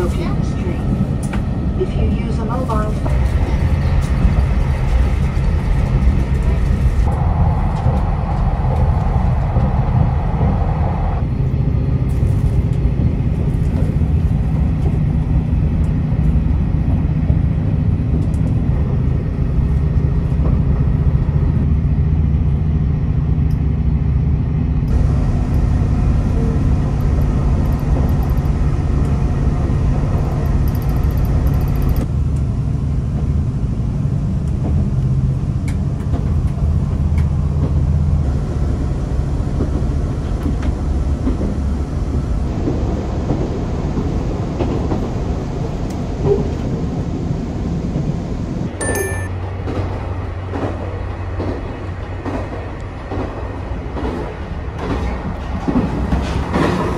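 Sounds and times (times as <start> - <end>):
diesel train rumbling: 0.0 - 56.9.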